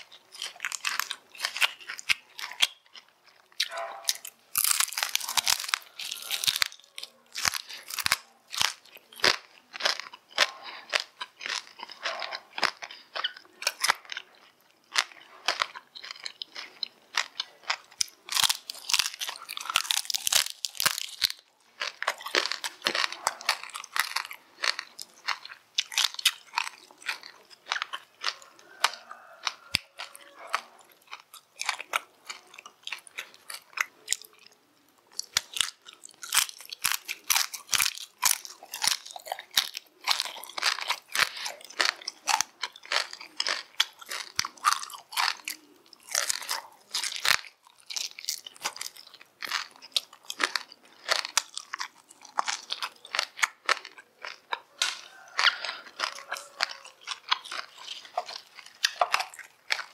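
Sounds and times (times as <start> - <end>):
crunchy chewing of fried meat: 0.0 - 59.9.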